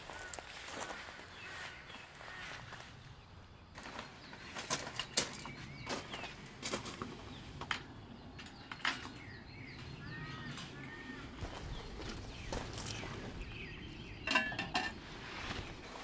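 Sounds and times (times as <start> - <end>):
low outdoor background: 0.0 - 16.0
small birds chirping: 0.0 - 16.0.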